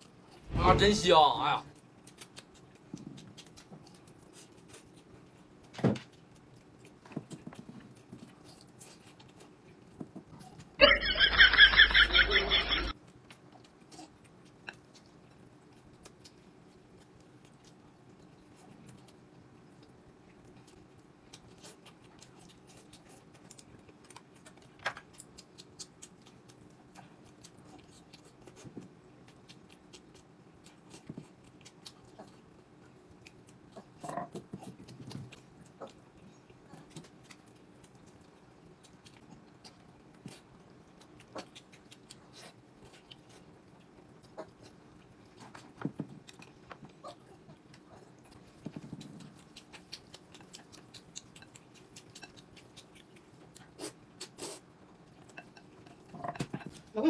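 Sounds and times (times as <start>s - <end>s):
chewing: 0.0s - 0.5s, 1.7s - 10.8s, 12.9s - 57.0s
faint low hum: 0.0s - 57.0s.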